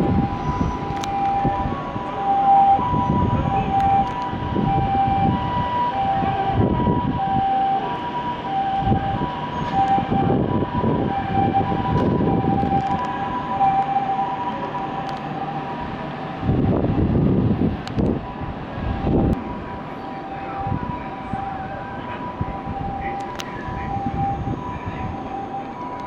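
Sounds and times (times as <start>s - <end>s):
two-tone railway warning signal: 0.0s - 26.0s.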